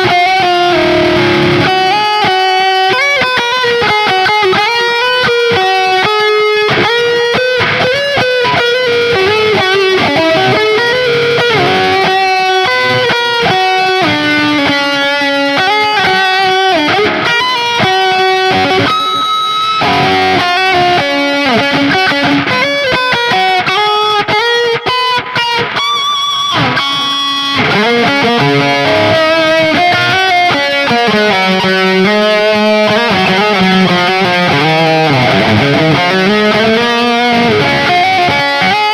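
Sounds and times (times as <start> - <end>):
electric guitar lead line: 0.0 - 38.9.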